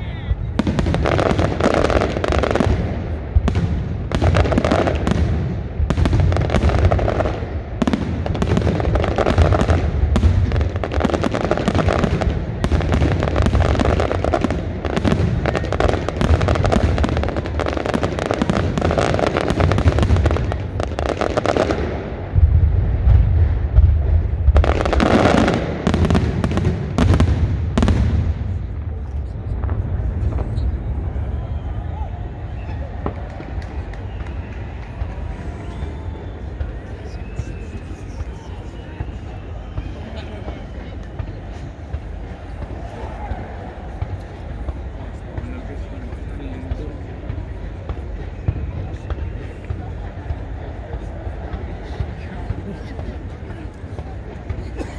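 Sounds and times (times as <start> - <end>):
fireworks bangs and crackles: 0.0 - 54.9
low firework booms: 0.4 - 54.8.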